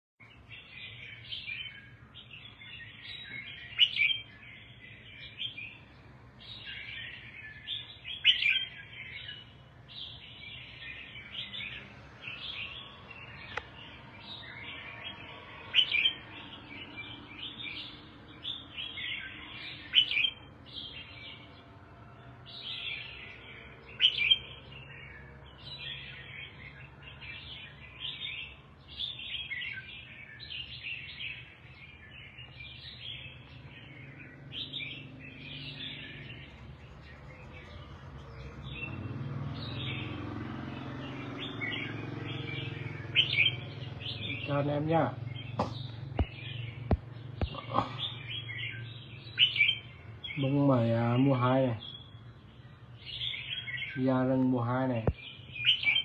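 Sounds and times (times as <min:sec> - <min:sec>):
bird singing chattering phrases: 0:00.2 - 0:21.5, 0:22.5 - 0:56.0.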